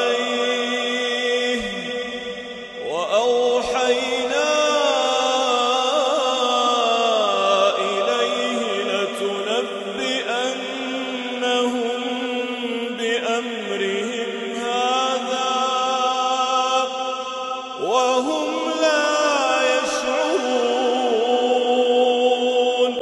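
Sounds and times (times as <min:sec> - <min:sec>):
man chanting melodically: 0:00.0 - 0:23.0.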